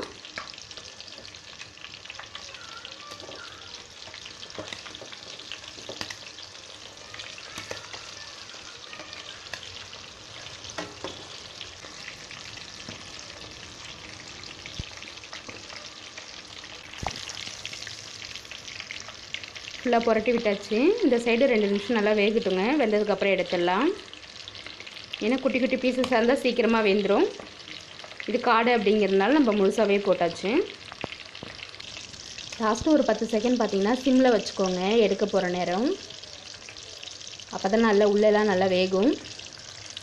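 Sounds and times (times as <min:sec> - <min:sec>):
deep-frying sizzle in hot oil: 0:00.0 - 0:40.0.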